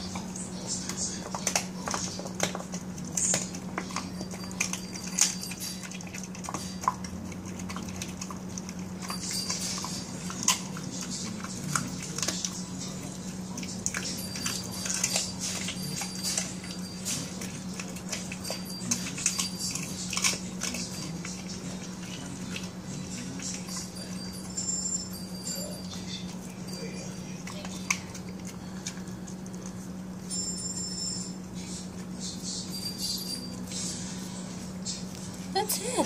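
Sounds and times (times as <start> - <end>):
dog chewing raw meat: 0.0 - 36.0.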